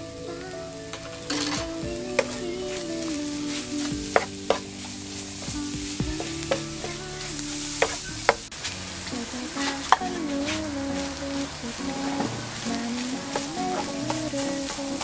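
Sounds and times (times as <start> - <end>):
food sizzling in frying pan: 1.4 - 15.0.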